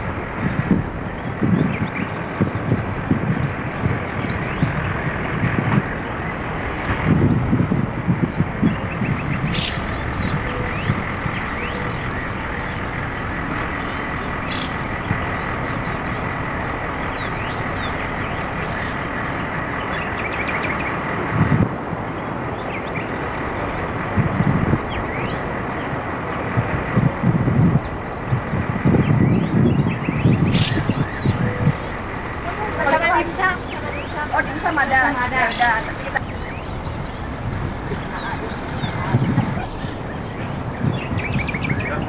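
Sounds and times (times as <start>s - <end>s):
machinery running with high whine: 0.0s - 42.0s.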